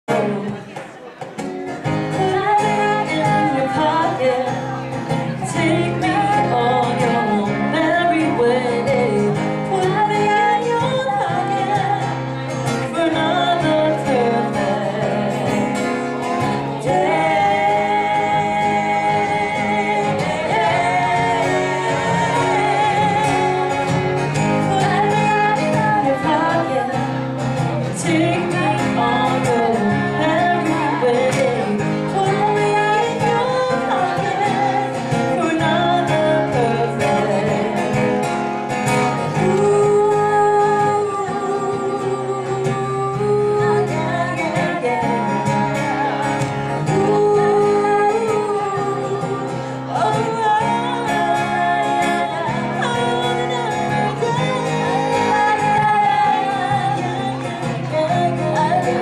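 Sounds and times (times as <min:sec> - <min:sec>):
acoustic guitar: 0:00.0 - 0:59.0
woman singing: 0:00.1 - 0:00.7, 0:01.9 - 0:38.3, 0:38.9 - 0:59.0.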